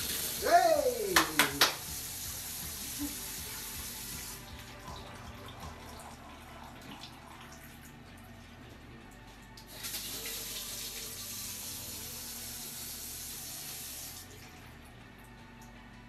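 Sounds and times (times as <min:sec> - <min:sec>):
faucet water running into sink: 0:00.0 - 0:07.9, 0:09.6 - 0:14.7.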